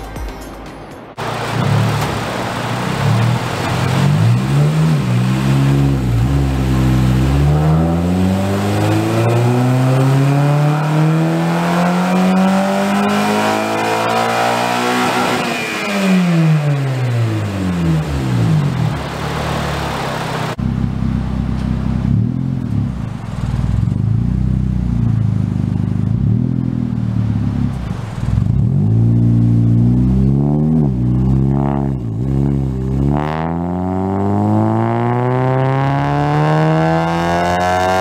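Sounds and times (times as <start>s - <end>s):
car engine through exhaust: 1.2s - 38.0s.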